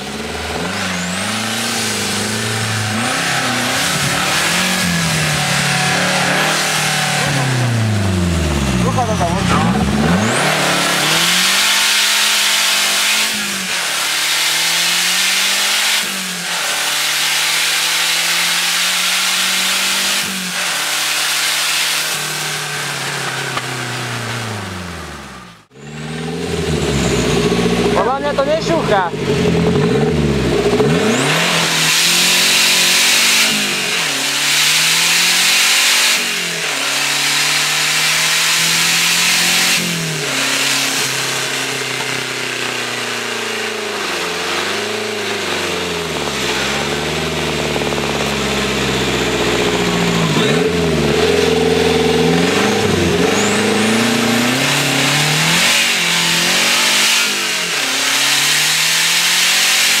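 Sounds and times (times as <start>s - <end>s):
car engine accelerating hard: 0.0s - 60.0s.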